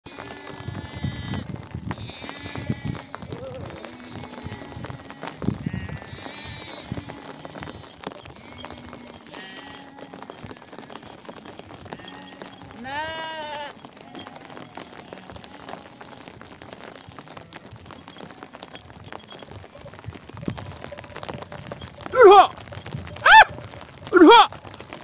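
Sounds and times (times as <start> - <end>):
sheep bleating: 0.1 - 19.2, 22.1 - 22.6, 24.1 - 24.6
raindrops ticking: 0.1 - 25.0.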